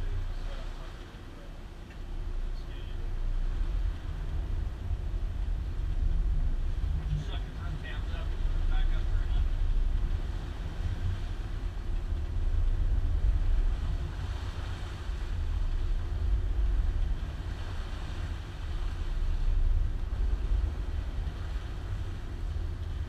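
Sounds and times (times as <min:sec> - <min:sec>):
boat engine rumble: 0:00.0 - 0:23.0
rushing wind and water: 0:00.0 - 0:23.0.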